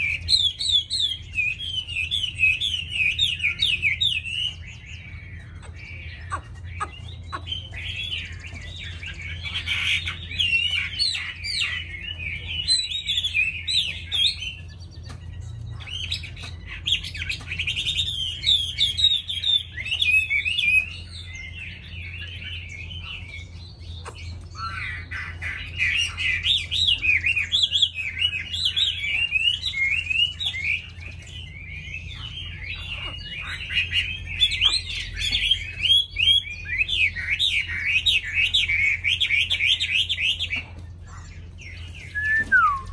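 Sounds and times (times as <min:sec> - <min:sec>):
bird warbling and whistling: 0:00.0 - 0:42.9.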